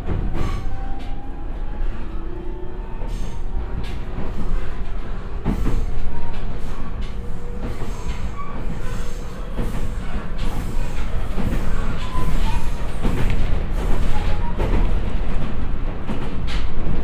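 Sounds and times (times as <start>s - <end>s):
wheel and track rumble: 3.0s - 17.0s.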